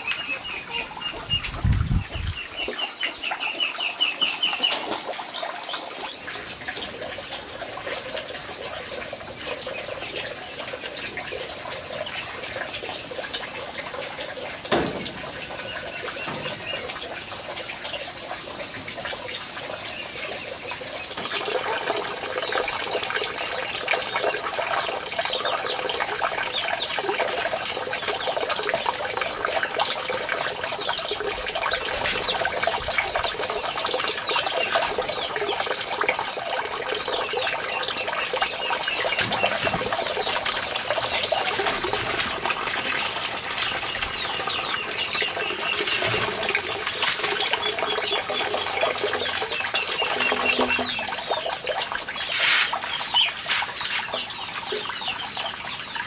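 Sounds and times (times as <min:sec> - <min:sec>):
many birds chirping: 0:00.0 - 0:56.0.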